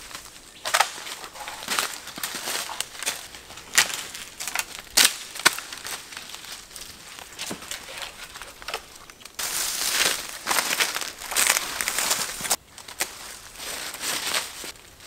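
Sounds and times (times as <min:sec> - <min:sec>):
branches cracking: 0:00.0 - 0:15.0
branches dragged over ground: 0:00.0 - 0:15.0
dry leaves crunching: 0:00.0 - 0:15.0.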